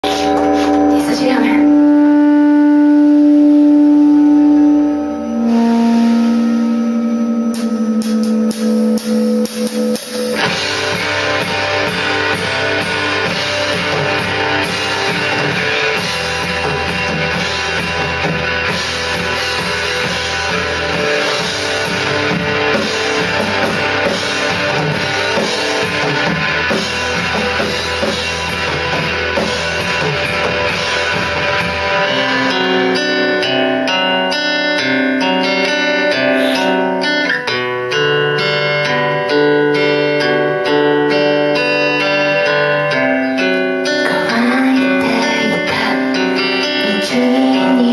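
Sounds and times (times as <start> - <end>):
band held chord ringing: 0.0 - 47.9
guitar and drum kit playing: 0.0 - 47.9
guitar plucked single notes: 0.0 - 47.9.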